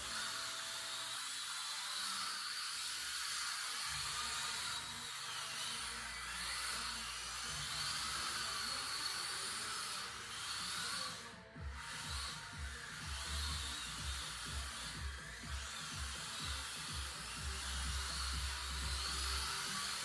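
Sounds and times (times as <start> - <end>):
rc car electric motors whining: 0.0 - 20.0.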